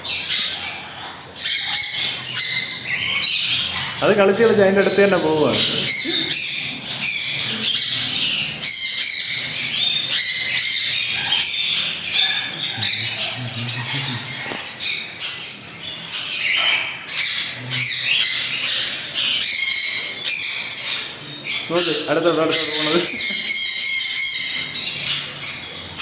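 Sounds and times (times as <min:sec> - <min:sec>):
parrots squawking and chattering: 0:00.0 - 0:26.0.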